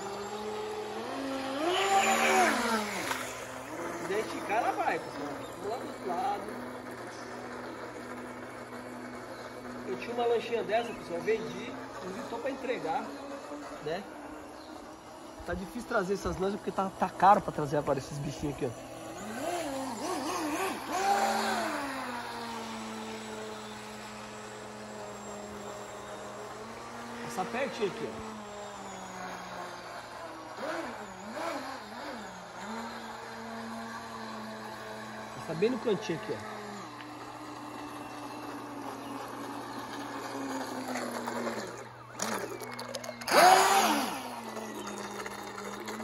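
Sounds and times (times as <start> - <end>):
electric boat motor whining: 0.0 - 46.0.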